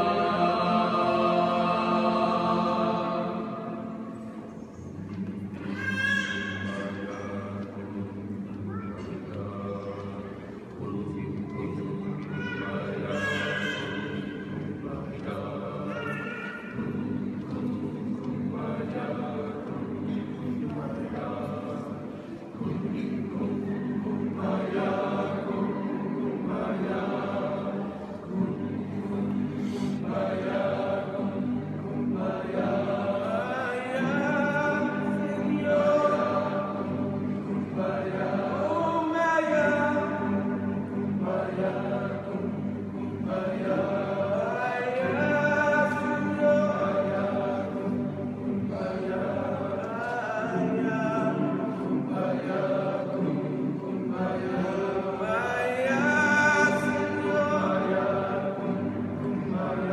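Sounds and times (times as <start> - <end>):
men's choir singing in harmony: 0.0 - 59.9.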